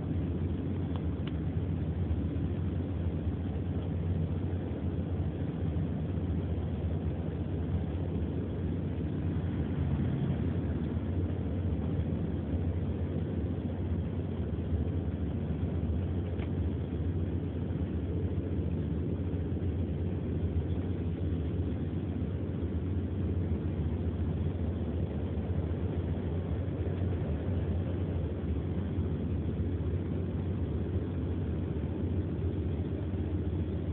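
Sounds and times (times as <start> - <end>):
car cabin low rumble: 0.0 - 33.9.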